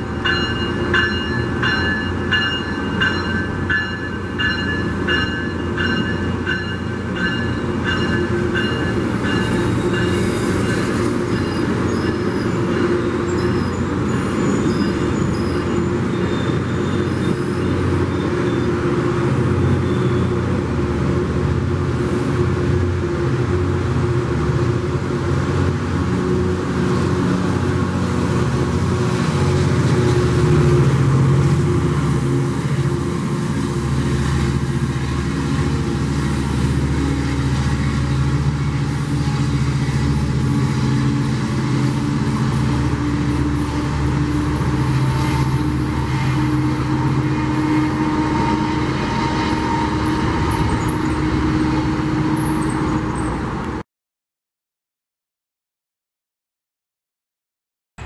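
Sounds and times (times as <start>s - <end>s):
diesel train passing: 0.0s - 53.8s.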